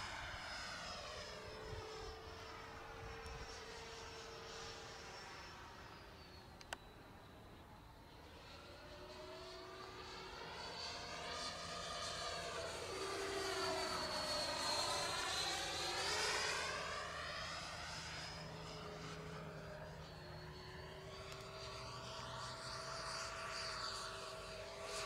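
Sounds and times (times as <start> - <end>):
model jet fan whining: 0.0 - 25.0.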